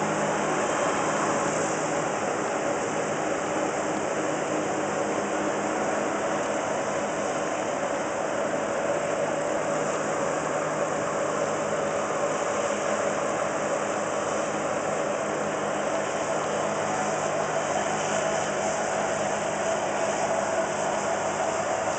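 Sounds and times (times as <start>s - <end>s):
combine harvester engine drone: 0.0s - 21.9s.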